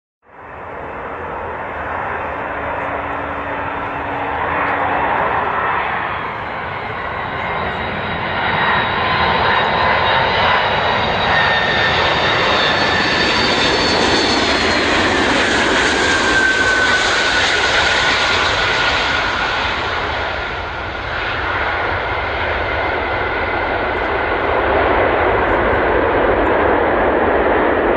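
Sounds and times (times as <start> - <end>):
jet engines of passing aircraft: 0.3 - 27.9.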